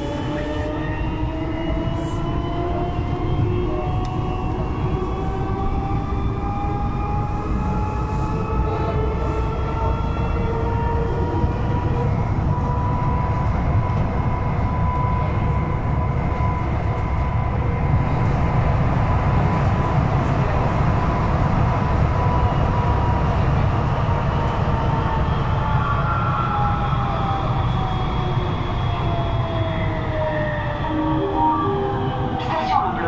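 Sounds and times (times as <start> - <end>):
train rolling rumble: 0.0 - 33.0.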